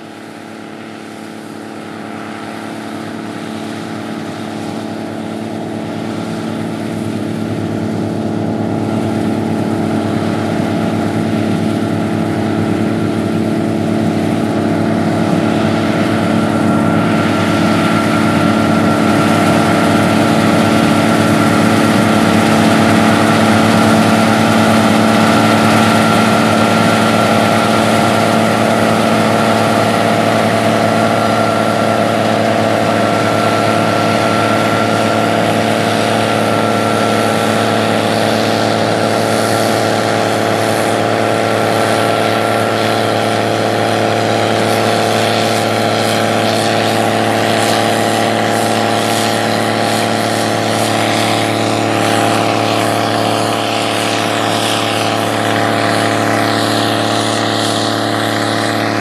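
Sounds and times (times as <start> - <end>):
combine harvester running: 0.0 - 59.0
steady high whine: 0.0 - 59.0.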